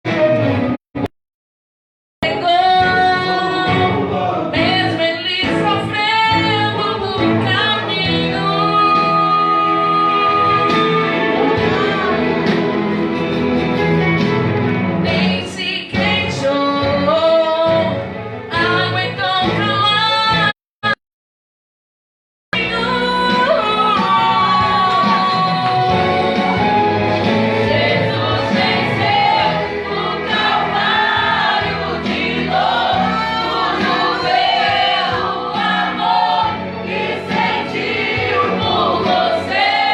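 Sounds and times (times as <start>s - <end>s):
instrumental accompaniment: 2.2s - 20.5s, 22.6s - 39.9s.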